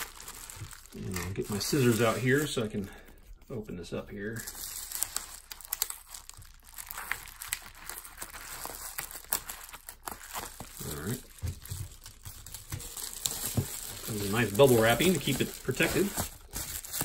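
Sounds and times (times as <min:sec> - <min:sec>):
bubble wrap crinkling and crackling: 0:00.0 - 0:17.0.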